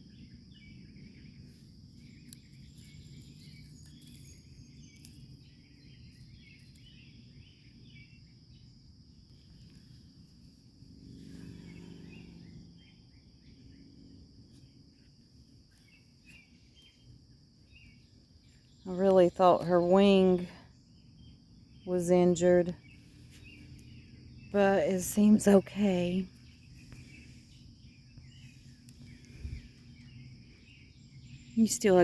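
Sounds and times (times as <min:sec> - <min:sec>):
bird chirps: 0:00.0 - 0:09.8, 0:11.1 - 0:32.0
insect drone: 0:00.0 - 0:32.0.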